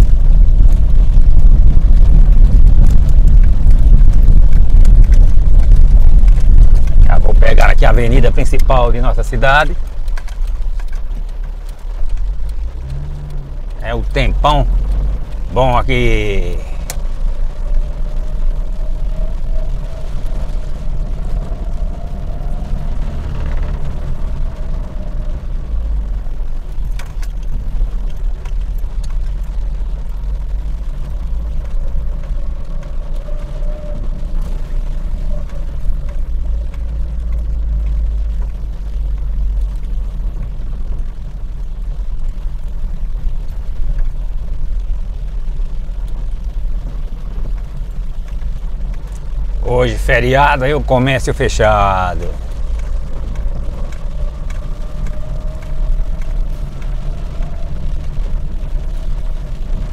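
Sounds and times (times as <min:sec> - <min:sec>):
engine and tyres rumbling: 0:00.0 - 0:59.9.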